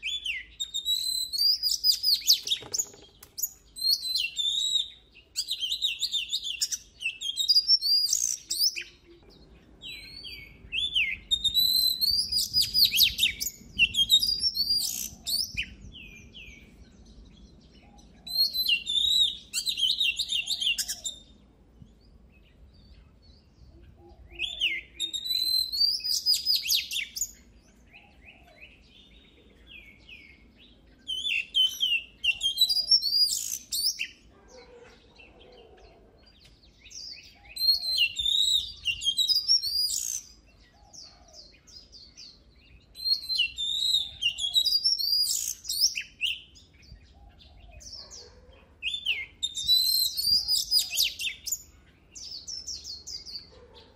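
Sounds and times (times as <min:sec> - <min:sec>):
magpie-robin singing: 0:00.0 - 0:53.9.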